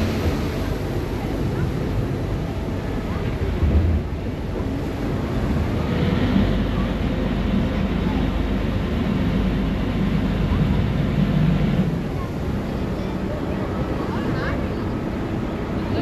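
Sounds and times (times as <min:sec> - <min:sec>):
ferry engine rumble: 0:00.0 - 0:16.0
water rushing past hull: 0:00.0 - 0:16.0.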